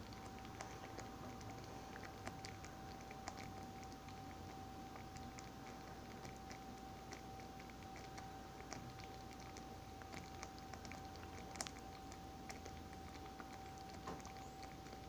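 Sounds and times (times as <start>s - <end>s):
sauce simmering with pops: 0.0s - 15.0s
thin steady hum: 0.0s - 15.0s.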